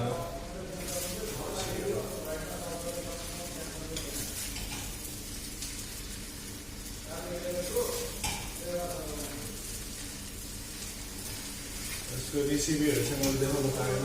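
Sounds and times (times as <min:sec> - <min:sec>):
noodles sizzling in a pan: 0:00.0 - 0:14.0.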